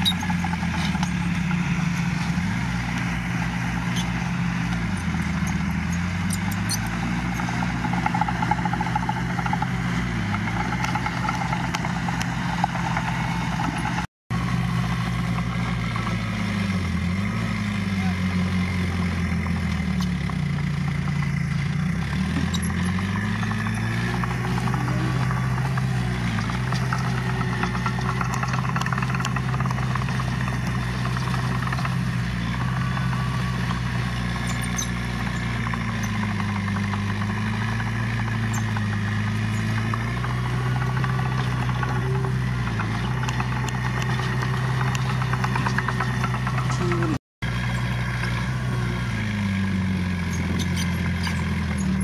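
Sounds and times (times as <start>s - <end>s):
heavy machinery diesel engine: 0.0s - 52.0s.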